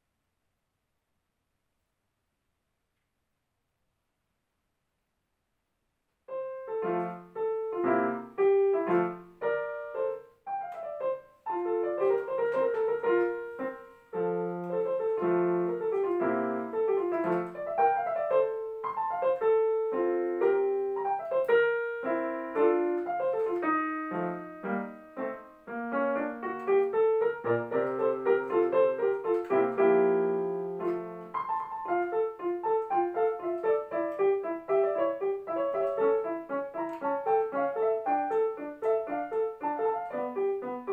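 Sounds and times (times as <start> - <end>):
digital piano classical solo: 6.3 - 40.9.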